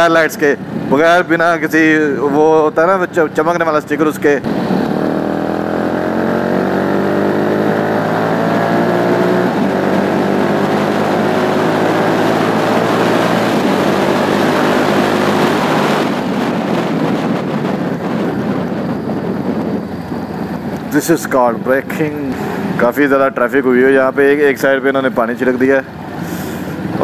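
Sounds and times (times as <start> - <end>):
wind and road noise: 0.0 - 27.0
motorcycle engine accelerating: 4.3 - 27.0.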